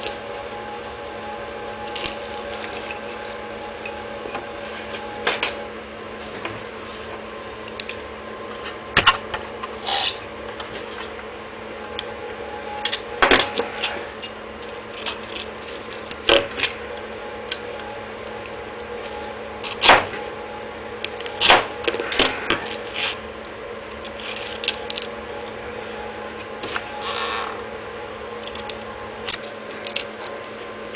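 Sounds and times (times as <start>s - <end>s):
steady hum: 0.0s - 30.9s.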